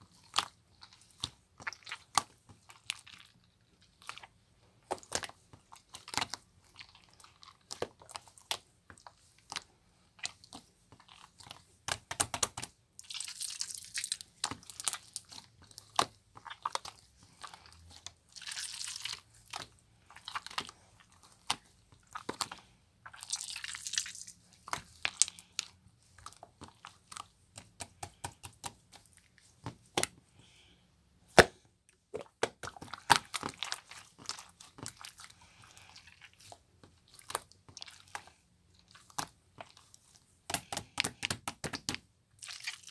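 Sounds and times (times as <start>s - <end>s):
slime crackling squelches: 0.0s - 42.9s.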